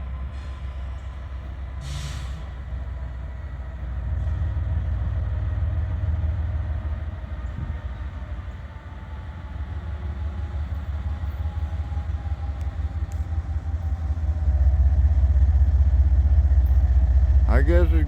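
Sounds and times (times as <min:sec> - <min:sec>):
locomotive engine rumble: 0:00.0 - 0:18.0.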